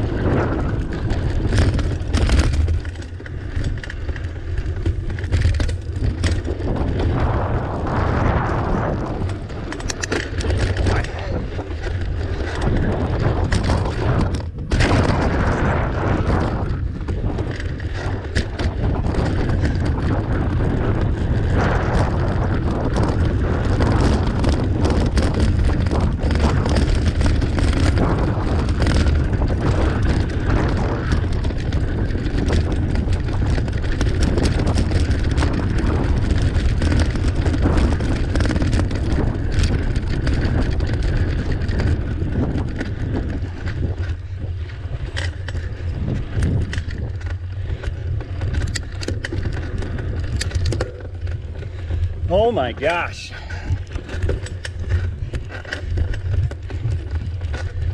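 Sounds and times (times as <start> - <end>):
bike knocks and rattles: 0.0 - 52.5, 53.4 - 57.9
wind buffeting microphone: 0.0 - 57.9.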